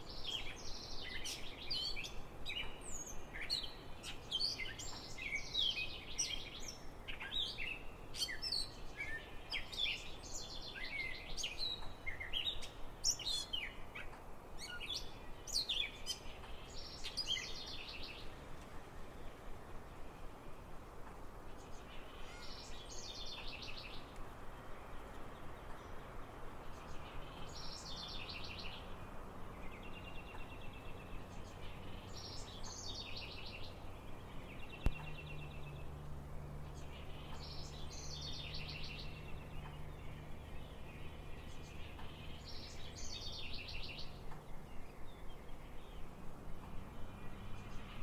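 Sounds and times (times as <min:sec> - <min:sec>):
songbird singing: 0:00.0 - 0:48.0.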